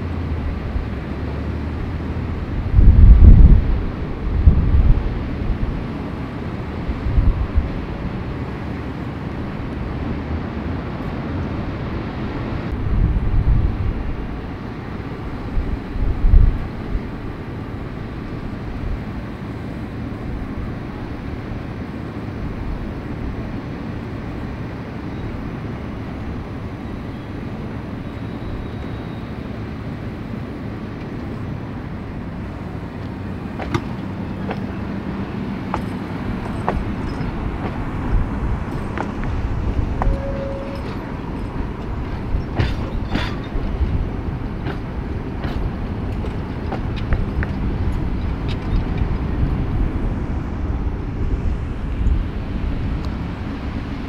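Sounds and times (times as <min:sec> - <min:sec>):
tram running gear rumbling on rails: 0:00.0 - 0:54.0.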